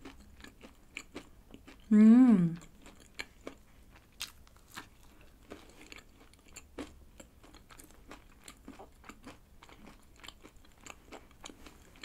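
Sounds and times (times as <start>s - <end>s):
chewing crunchy food: 0.0s - 1.9s, 2.5s - 12.0s.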